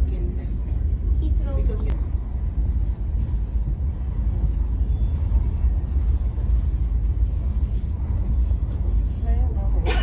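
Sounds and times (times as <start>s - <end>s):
train rumbling inside coach: 0.0s - 10.0s.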